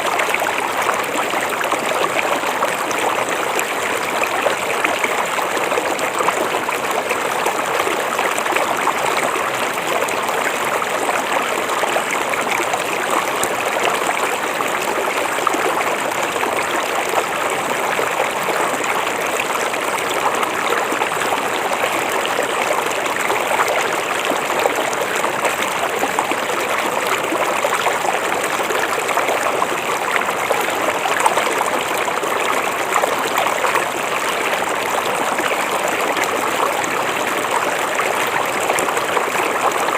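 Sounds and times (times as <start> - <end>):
river water rushing and babbling: 0.0 - 39.9.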